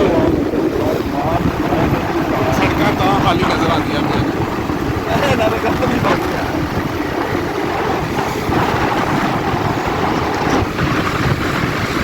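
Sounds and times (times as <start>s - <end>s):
motorbike engine and road noise: 0.0s - 12.0s
wind over microphone: 0.0s - 12.0s.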